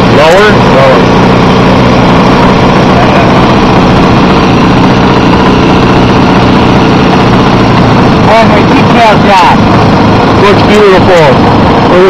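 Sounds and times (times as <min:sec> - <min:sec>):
model plane engine running: 0:00.0 - 0:12.0.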